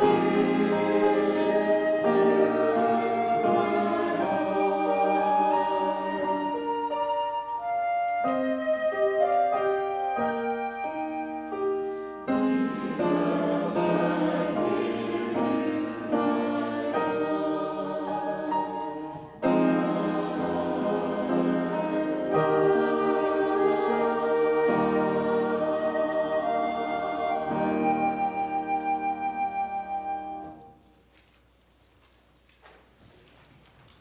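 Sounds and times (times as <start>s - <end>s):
choir accompaniment: 0.0s - 30.8s
church choir singing in harmony: 0.0s - 30.8s.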